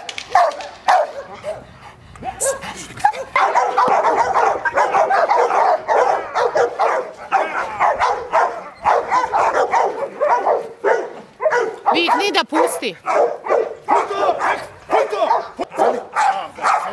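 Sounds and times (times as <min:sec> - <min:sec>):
dog barking: 0:00.3 - 0:01.7, 0:02.3 - 0:16.9.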